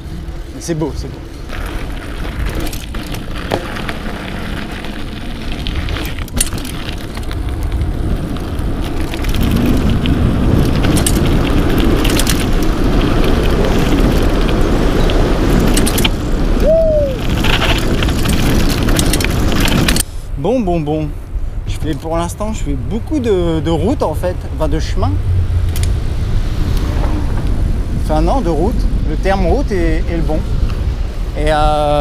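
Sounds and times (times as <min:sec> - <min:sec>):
bike tyres on paved road: 0:00.0 - 0:32.0
wind rushing over microphone: 0:00.0 - 0:32.0.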